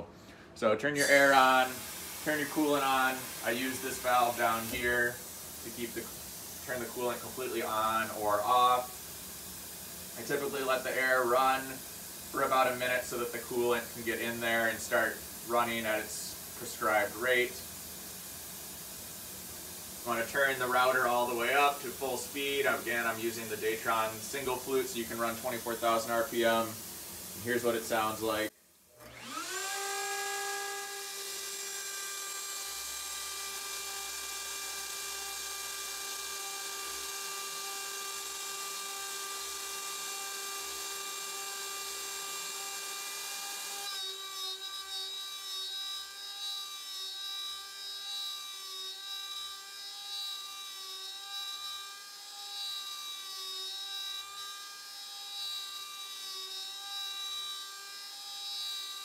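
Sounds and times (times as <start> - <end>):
router spindle high whine: 1.0 - 17.8, 19.9 - 59.0
end mill cutting aluminum: 1.0 - 59.0.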